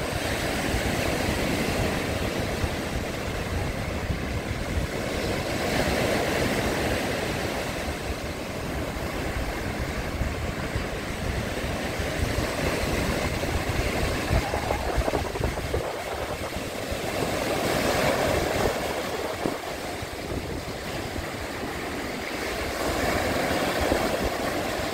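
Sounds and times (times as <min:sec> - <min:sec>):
waves breaking on stony beach: 0:00.0 - 0:24.9.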